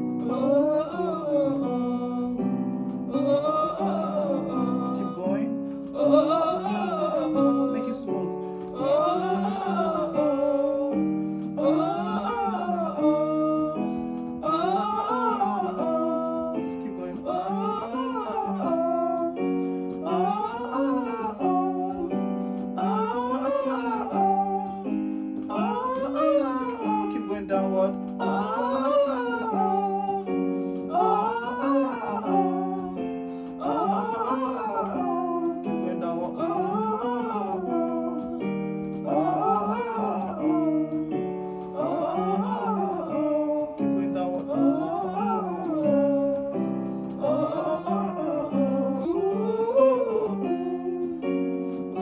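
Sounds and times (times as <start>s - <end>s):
held accompaniment notes: 0.0s - 52.0s
person singing vowel warm-up: 0.0s - 52.0s
sustained keyboard chords: 0.0s - 52.0s.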